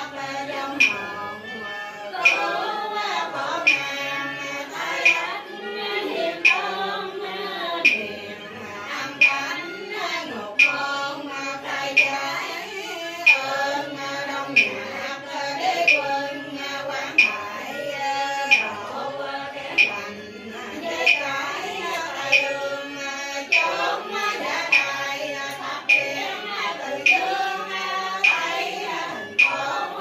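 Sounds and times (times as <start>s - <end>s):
instrumental accompaniment: 0.0s - 30.0s
ritual chanting: 0.0s - 30.0s
sharp percussive stroke: 0.1s - 11.0s, 13.2s - 15.0s, 15.6s - 30.0s.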